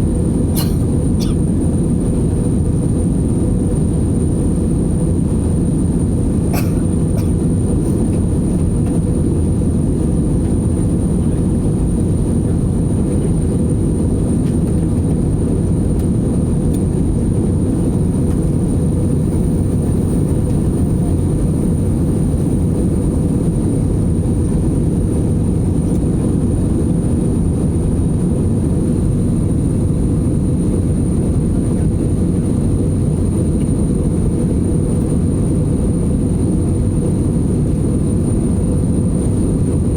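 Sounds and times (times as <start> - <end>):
airliner cabin engine rush: 0.0 - 39.9.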